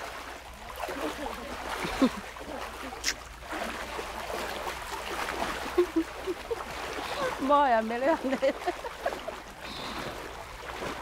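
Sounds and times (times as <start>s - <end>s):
water sloshing around wading legs: 0.0s - 11.0s.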